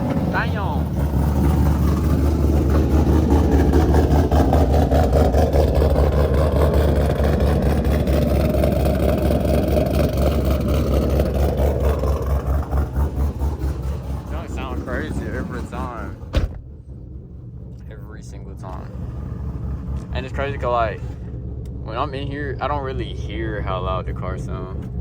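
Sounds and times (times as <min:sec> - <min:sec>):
car engine idling choppy: 0:00.0 - 0:25.0.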